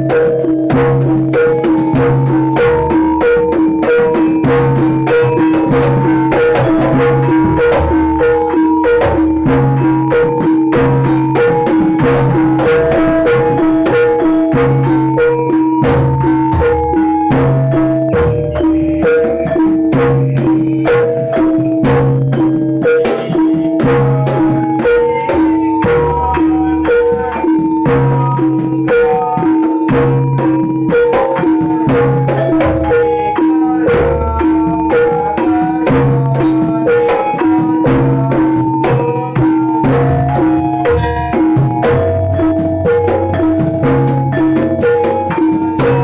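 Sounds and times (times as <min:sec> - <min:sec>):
drum strokes: 0:00.0 - 0:46.0
low ringing tones: 0:00.0 - 0:46.0
pitched percussion melody: 0:00.0 - 0:46.0.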